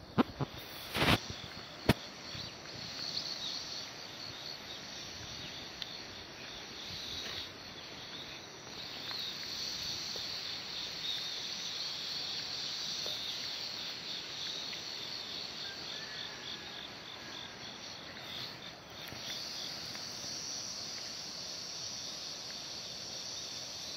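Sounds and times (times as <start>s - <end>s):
background hiss: 0.0s - 23.9s
crickets chirping: 0.0s - 23.9s.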